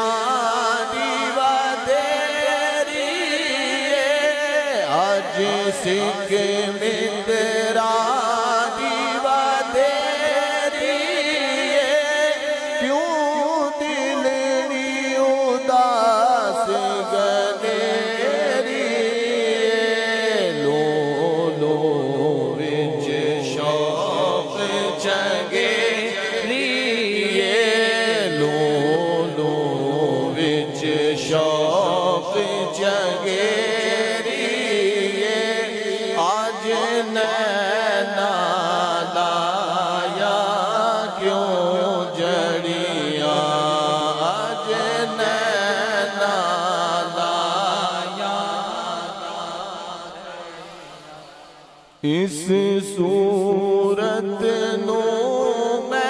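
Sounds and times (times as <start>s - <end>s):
man chanting into a microphone: 0.0s - 56.0s.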